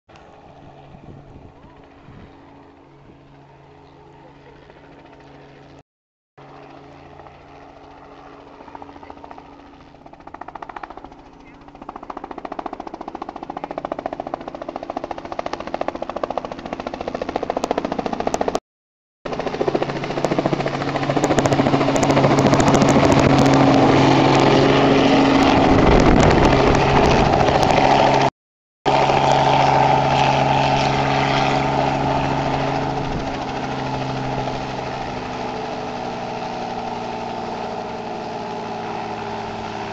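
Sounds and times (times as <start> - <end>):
helicopter rotor: 0.1 - 5.8, 6.4 - 18.6, 19.3 - 28.3, 28.9 - 39.9.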